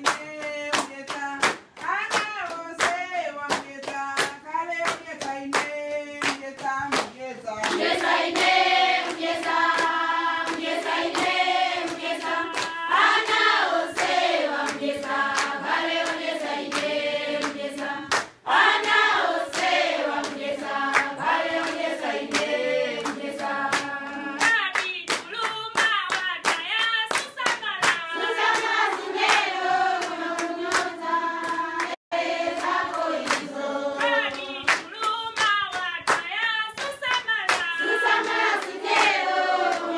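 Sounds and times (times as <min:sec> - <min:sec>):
hand clapping: 0:00.0 - 0:39.9
women singing in unison: 0:00.0 - 0:39.9.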